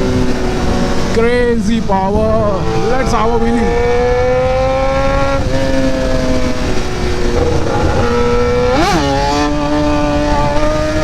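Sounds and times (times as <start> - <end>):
motorcycle engine revving hard: 0.0 - 11.0.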